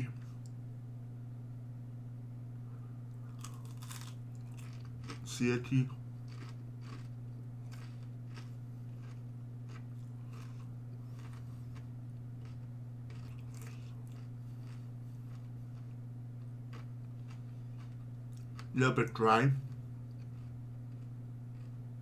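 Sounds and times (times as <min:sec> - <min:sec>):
steady low hum: 0:00.0 - 0:22.0
person chewing crunchy food: 0:03.1 - 0:18.7, 0:19.8 - 0:21.9.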